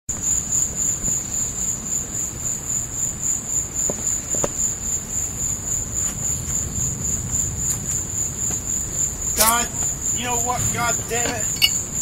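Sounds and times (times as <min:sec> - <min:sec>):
crickets chirping: 0:00.1 - 0:12.0.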